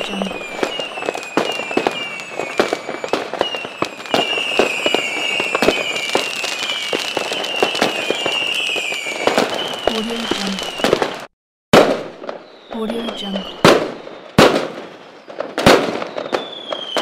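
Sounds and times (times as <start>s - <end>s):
falling firework whistles: 0.0s - 17.0s
fireworks bangs and crackles: 0.0s - 17.0s.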